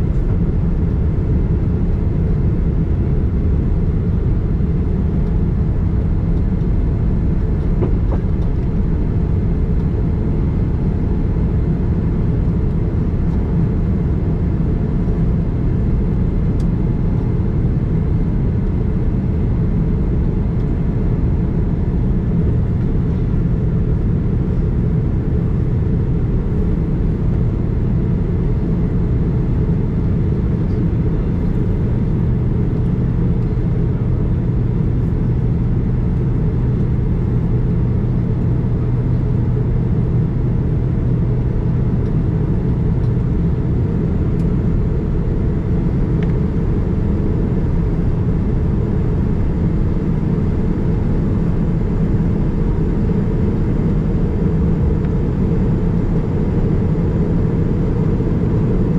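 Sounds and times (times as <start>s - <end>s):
airliner cabin rumble: 0.0s - 58.9s.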